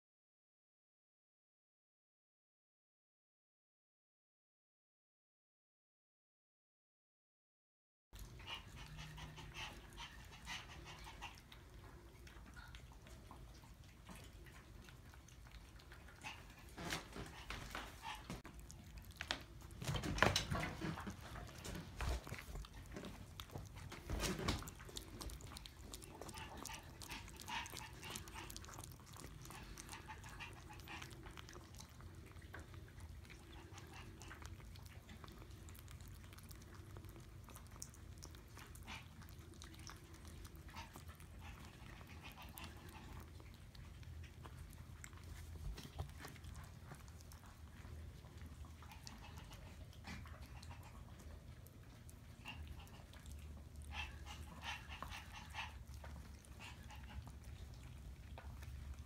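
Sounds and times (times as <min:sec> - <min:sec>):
puppies scuffling and chewing: 0:08.2 - 0:59.0.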